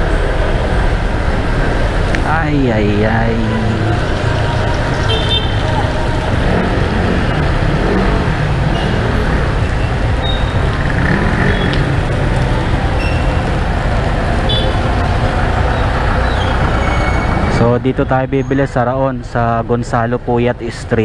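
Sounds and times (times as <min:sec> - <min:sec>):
motorcycle and traffic rumble: 0:00.0 - 0:21.0.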